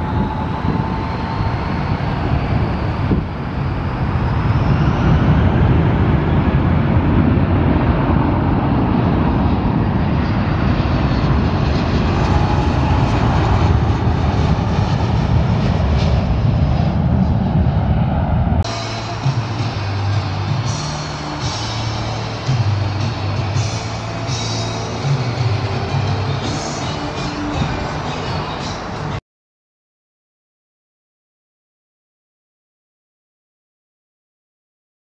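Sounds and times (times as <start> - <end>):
jet airliner flying past: 0.0 - 29.2.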